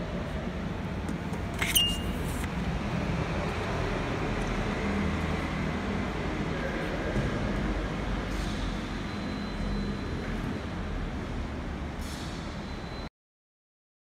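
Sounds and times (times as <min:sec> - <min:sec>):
station hall low rumble: 0:00.0 - 0:01.5, 0:02.4 - 0:13.1.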